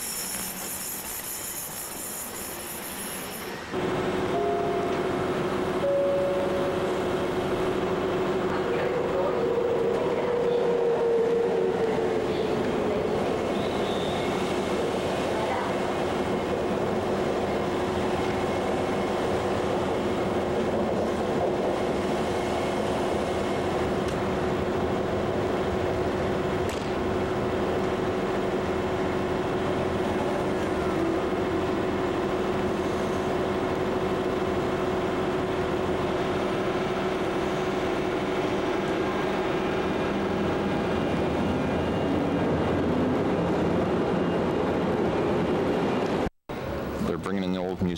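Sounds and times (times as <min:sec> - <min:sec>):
train rumbling: 0:03.5 - 0:47.2.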